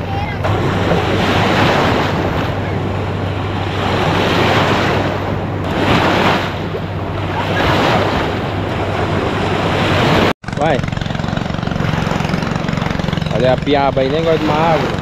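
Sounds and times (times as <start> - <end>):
steady low hum: 0.0 - 15.0
water washing and splashing: 0.0 - 15.0
wind buffeting microphone: 0.0 - 15.0.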